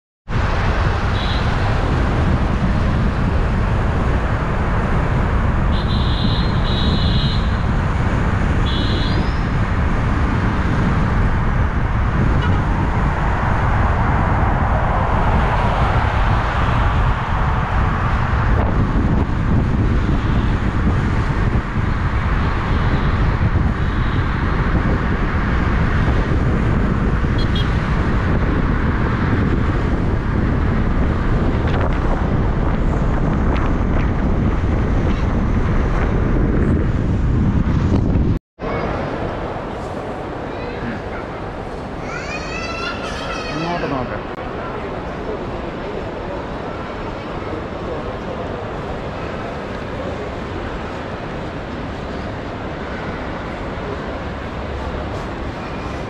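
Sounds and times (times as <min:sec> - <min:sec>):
vehicle road and wind noise: 0:00.2 - 0:56.0.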